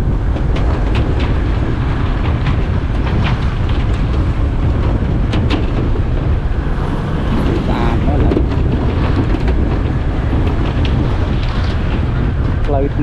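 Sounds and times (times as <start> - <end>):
vehicle rumbling on road: 0.0 - 13.0
wind buffeting microphone: 0.0 - 13.0.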